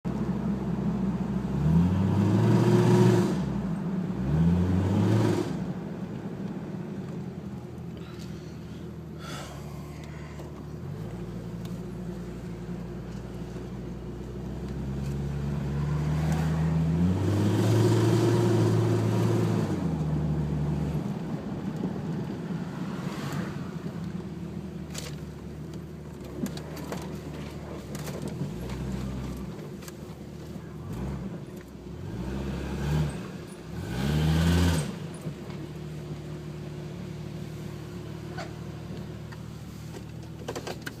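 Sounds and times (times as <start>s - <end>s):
car engine revving and idling: 0.1s - 41.0s.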